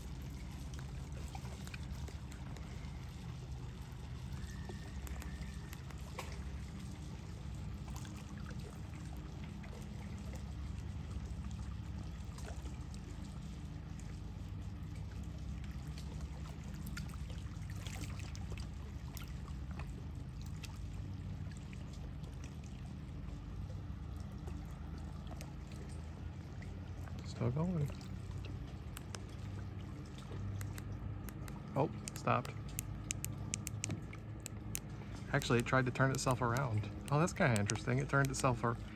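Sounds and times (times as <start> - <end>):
lake waves lapping: 0.0 - 38.9
steady low rumble: 0.0 - 38.9.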